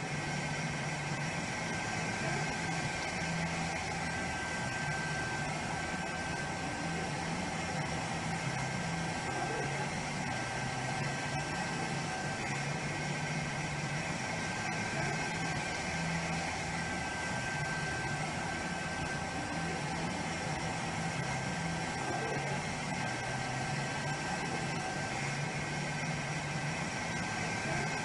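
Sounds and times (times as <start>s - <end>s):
high whine: 0.0s - 28.0s
motor humming: 0.0s - 28.0s.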